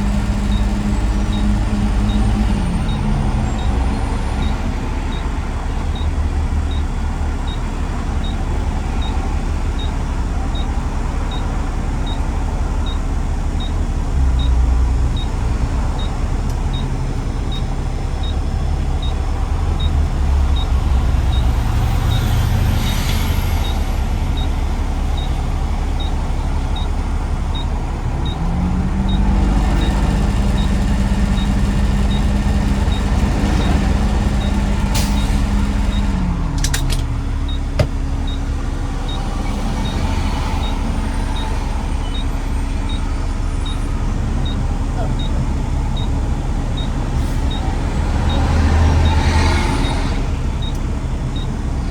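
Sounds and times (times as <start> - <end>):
garbage truck engine: 0.0 - 51.9
road rumble: 0.0 - 51.9.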